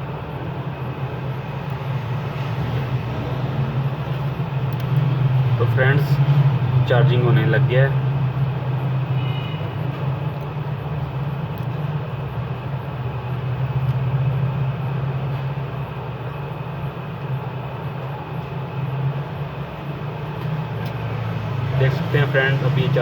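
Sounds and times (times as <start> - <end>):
background rumble and hiss: 0.0 - 21.1
constant low hum: 0.0 - 23.0.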